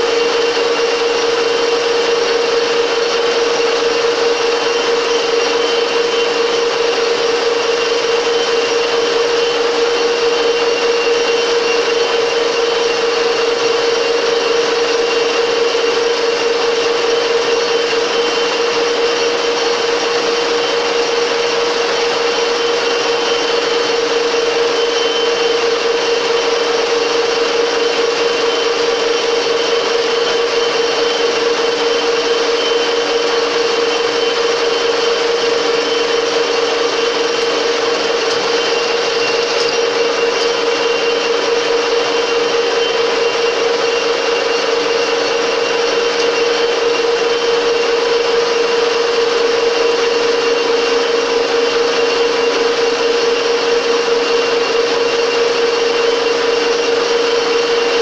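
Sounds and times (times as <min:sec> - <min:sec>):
metal lathe whining: 0:00.0 - 0:58.0.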